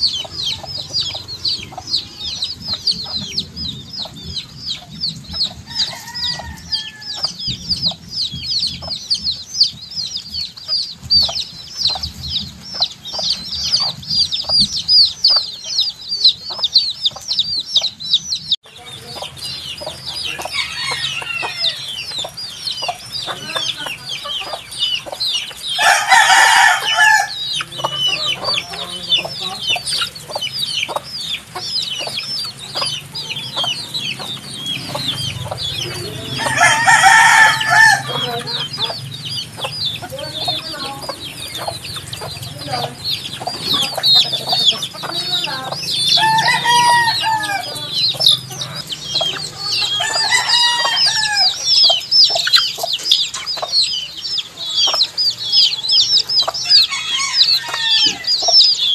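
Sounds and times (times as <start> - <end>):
baby chicks peeping: 0.0 - 58.9
drawn-out chick call: 0.0 - 58.9.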